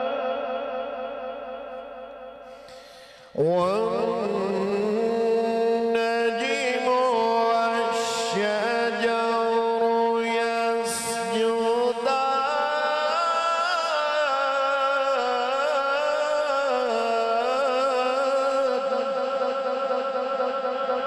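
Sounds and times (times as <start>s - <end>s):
man reciting melodically into microphone: 0.0s - 21.0s.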